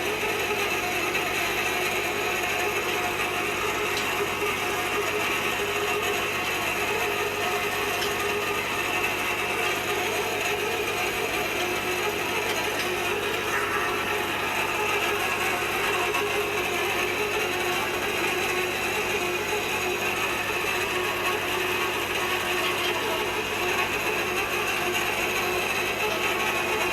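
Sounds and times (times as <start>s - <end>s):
cutter grinding steel pipe: 0.0s - 26.9s.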